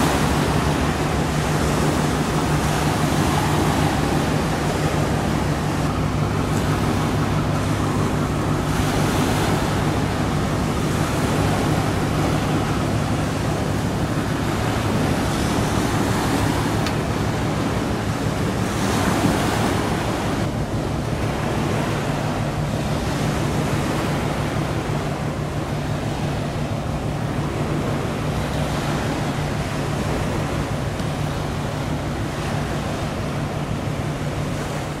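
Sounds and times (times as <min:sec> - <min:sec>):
boat diesel engine drone: 0:00.0 - 0:35.0
sea water rushing: 0:00.0 - 0:35.0
wind: 0:00.0 - 0:35.0.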